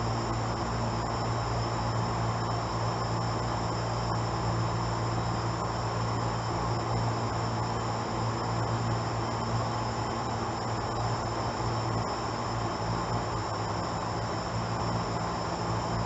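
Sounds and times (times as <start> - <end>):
high-pitched whine: 0.0 - 16.0.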